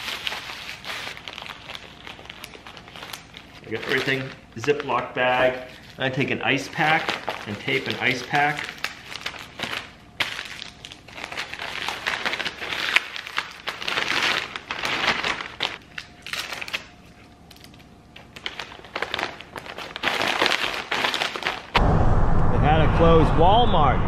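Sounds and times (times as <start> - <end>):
plastic packaging crinkling: 0.0 - 21.8.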